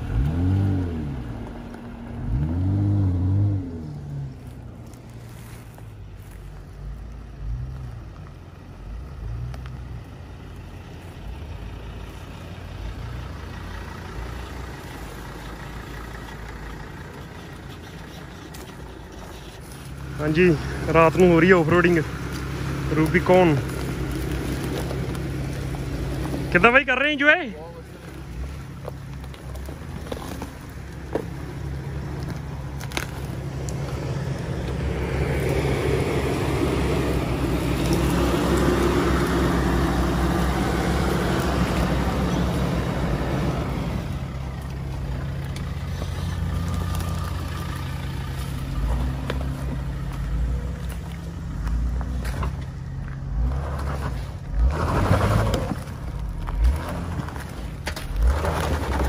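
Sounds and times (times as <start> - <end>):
off-road engines running: 0.0 - 59.0.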